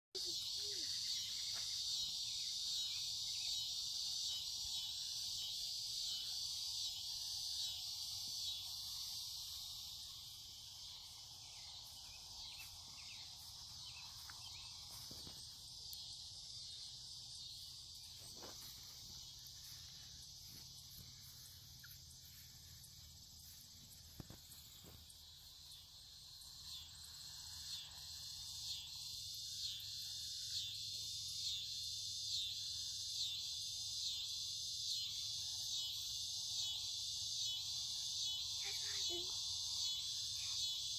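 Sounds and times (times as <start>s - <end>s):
insect chorus trill: 0.1s - 40.9s.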